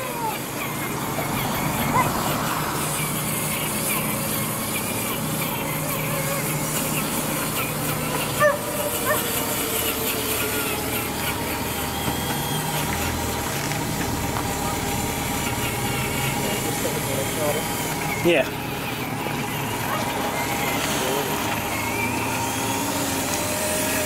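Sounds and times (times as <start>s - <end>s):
toy car electric motor whining: 0.0s - 24.0s.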